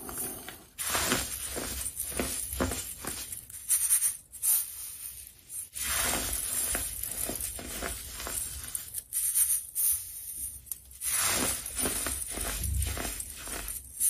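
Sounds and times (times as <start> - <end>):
baking soda crunching against sieve: 0.0 - 14.0.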